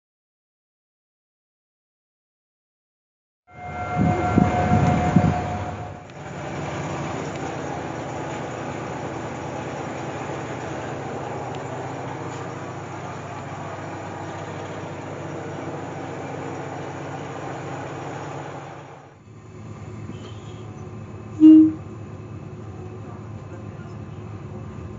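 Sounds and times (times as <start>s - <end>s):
diesel railcar rumbling on track: 3.5s - 24.9s.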